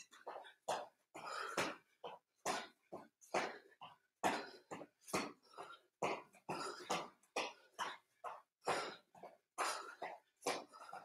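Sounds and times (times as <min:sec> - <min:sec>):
man panting hard: 0:00.0 - 0:11.0.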